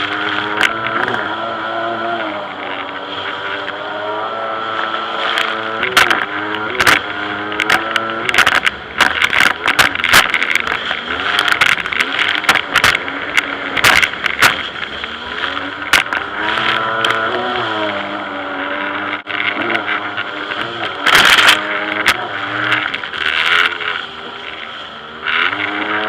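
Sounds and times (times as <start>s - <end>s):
jet ski engine revving: 0.0s - 26.0s.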